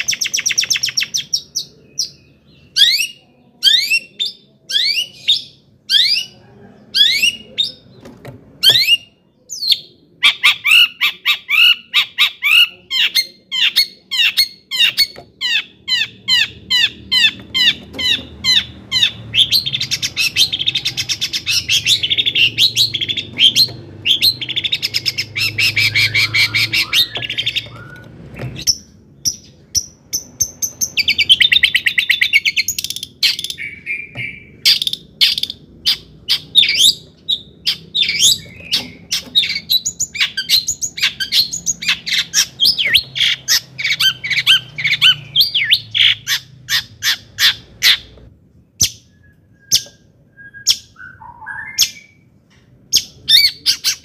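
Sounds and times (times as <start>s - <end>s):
bird singing rapid song: 0.0s - 6.4s, 7.0s - 48.2s.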